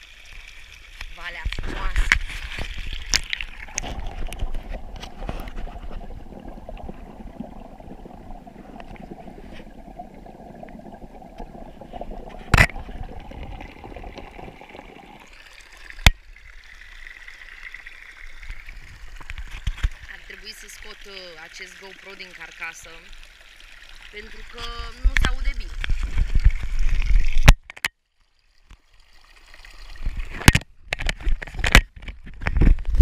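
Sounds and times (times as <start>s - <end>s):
muffled water rushing over stones: 0.0s - 27.9s, 28.6s - 33.0s.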